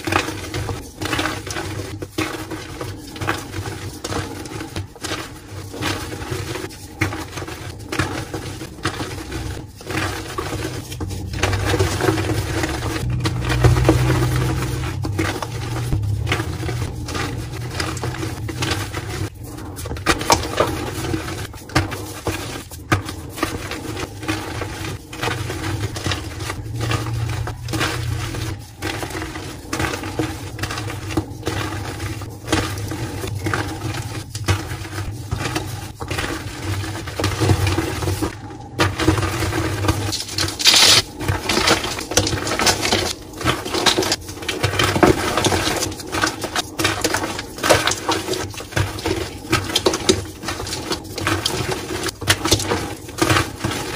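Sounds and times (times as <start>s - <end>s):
hands crushing chalk blocks: 0.0s - 53.9s.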